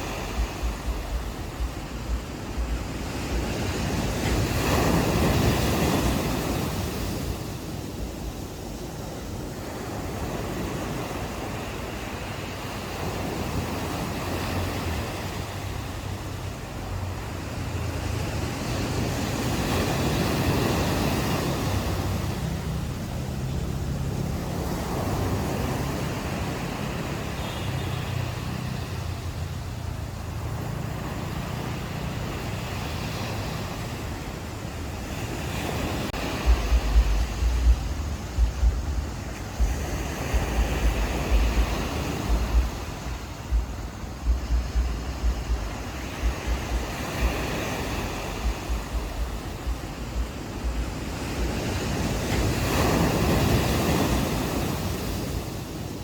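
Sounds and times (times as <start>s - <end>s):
low rumble of surf: 0.0s - 56.0s
ocean waves washing onto shore: 0.0s - 56.0s
wind buffeting microphone: 0.0s - 56.0s.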